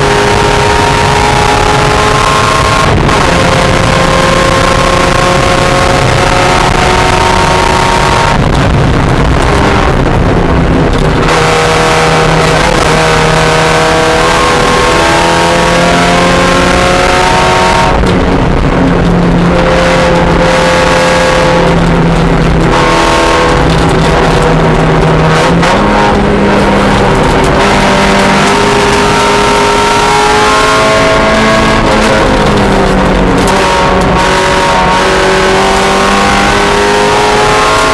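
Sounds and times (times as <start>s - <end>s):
race car engine running hard: 0.0s - 37.9s.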